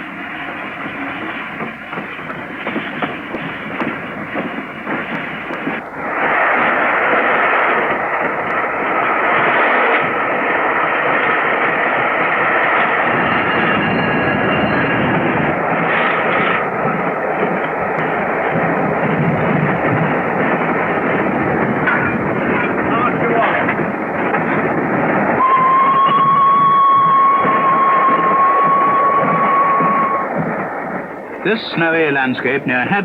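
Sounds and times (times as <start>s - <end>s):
steam locomotive running: 0.0s - 33.0s.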